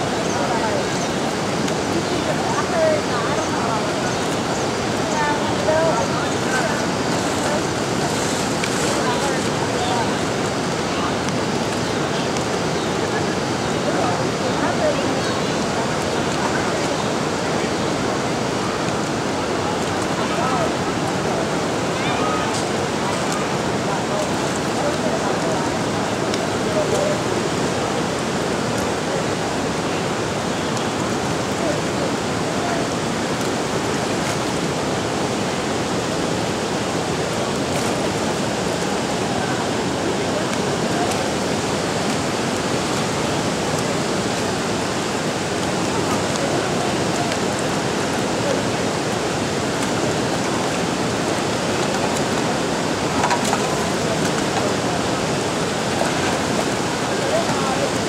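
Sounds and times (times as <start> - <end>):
fast-flowing river water rushing: 0.0 - 58.0.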